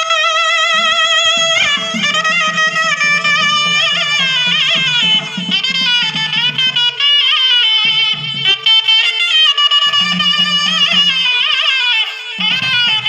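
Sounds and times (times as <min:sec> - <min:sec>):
reed wind instrument melody: 0:00.0 - 0:13.0
drum beat: 0:00.7 - 0:11.7, 0:12.4 - 0:13.0.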